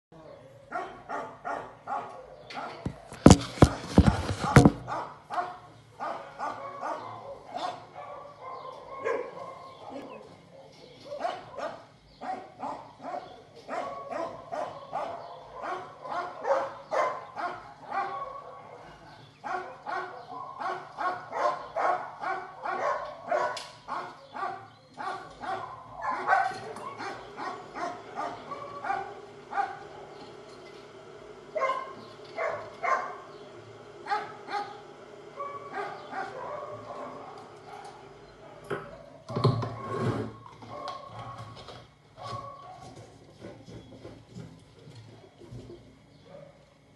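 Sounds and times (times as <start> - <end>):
dogs barking: 0.3 - 3.8, 4.4 - 43.2, 46.2 - 46.9.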